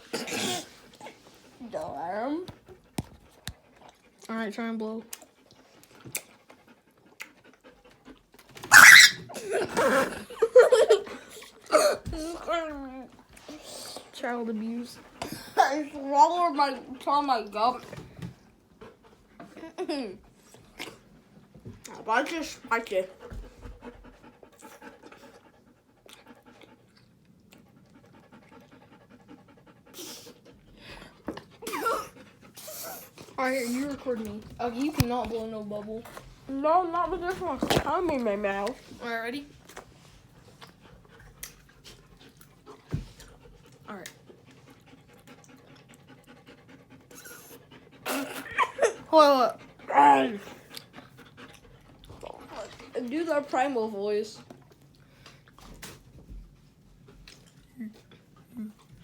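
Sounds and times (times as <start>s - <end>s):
dog panting: 0.5s - 59.0s.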